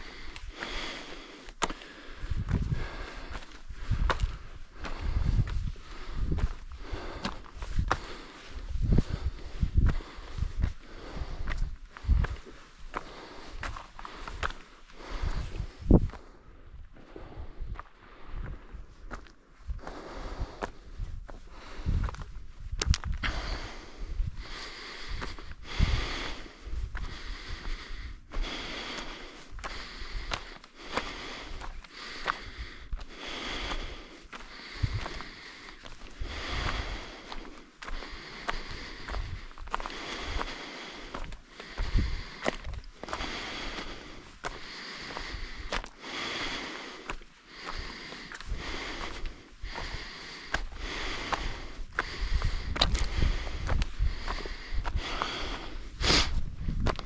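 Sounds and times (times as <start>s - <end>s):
footsteps on a trail: 0.0s - 57.0s
person breathing hard: 0.0s - 57.0s.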